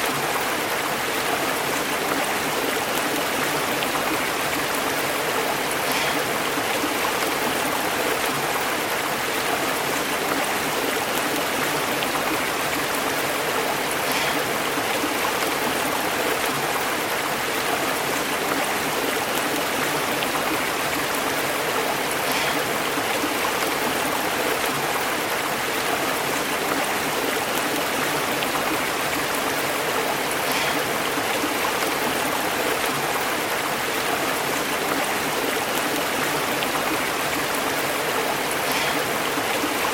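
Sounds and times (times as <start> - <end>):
small water splashes: 0.0 - 39.9
stream flowing over rocks: 0.0 - 39.9.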